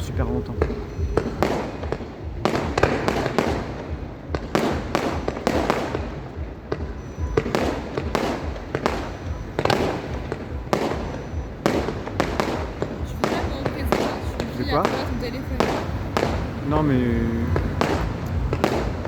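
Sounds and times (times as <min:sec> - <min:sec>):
fireworks bursting with echoing bangs: 0:00.0 - 0:19.0.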